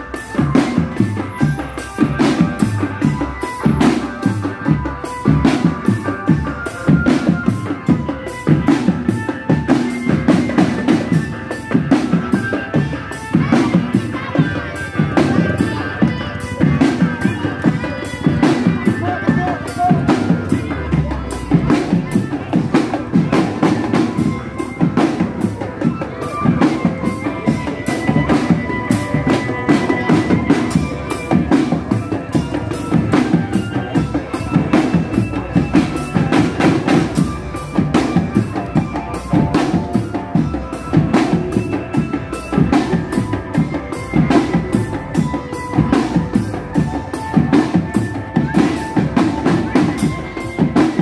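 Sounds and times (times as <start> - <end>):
high melody line: 0.0 - 51.0
snare and bass drums: 0.0 - 51.0.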